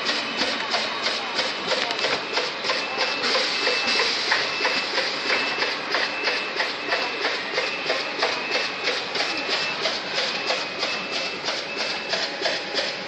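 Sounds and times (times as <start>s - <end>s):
packaging machine clattering: 0.0s - 13.0s.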